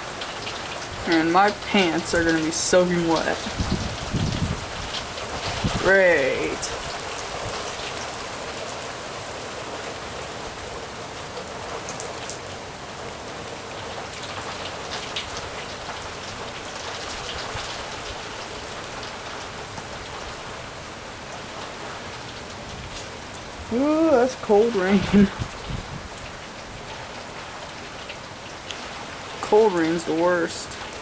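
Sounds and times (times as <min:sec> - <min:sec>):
heavy rain falling: 0:00.0 - 0:31.0
raindrops ticking: 0:00.0 - 0:31.0.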